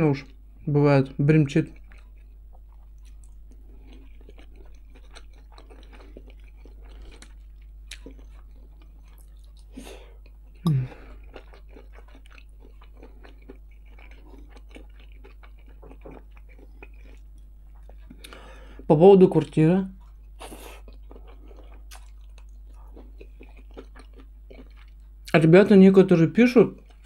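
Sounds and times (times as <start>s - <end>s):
chewing and biting food: 1.6s - 25.3s, 26.7s - 27.0s.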